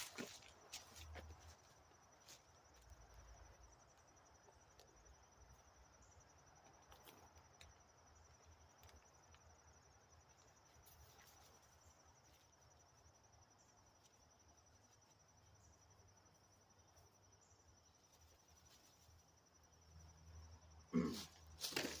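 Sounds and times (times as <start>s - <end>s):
high insect trill: 0.0s - 22.0s.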